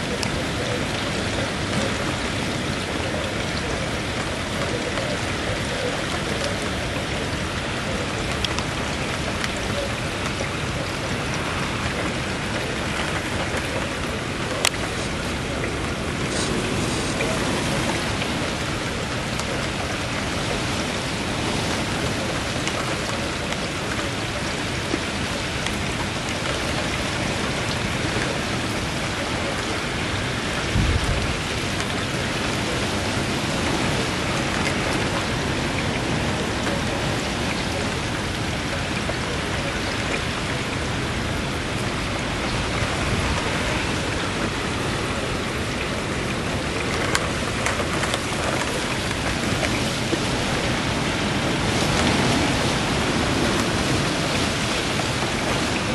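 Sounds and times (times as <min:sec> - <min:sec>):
gusty wind and rain: 0:00.0 - 0:55.9.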